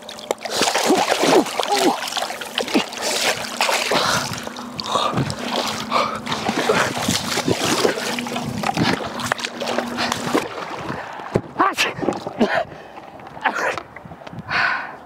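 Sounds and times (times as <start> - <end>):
river water splashing: 0.0 - 13.5.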